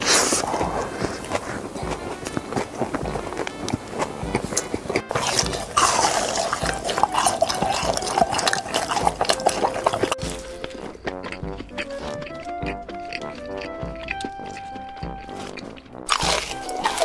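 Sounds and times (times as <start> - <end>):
music notes: 0.0 - 17.0
wet chewing and crunching: 0.0 - 17.0.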